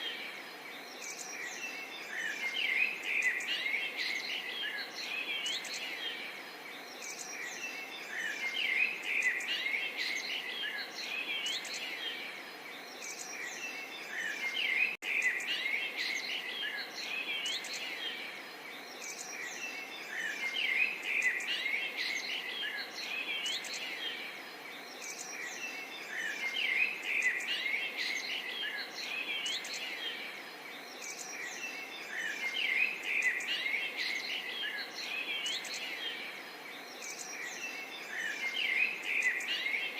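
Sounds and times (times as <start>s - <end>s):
faint steady hiss: 0.0s - 39.9s
many small birds chirping: 0.0s - 39.9s.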